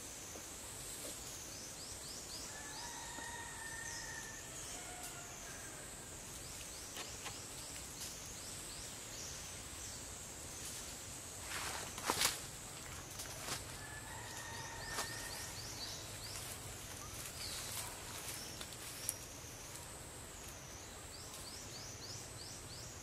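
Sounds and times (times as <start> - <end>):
insect chorus: 0.0 - 23.0.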